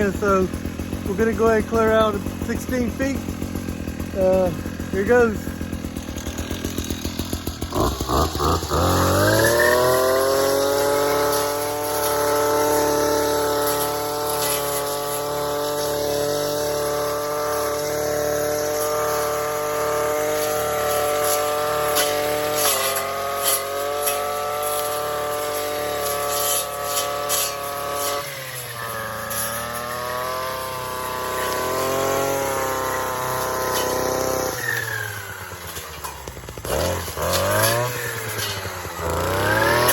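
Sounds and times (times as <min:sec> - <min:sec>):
weed whacker cutting brush: 0:00.0 - 0:39.9.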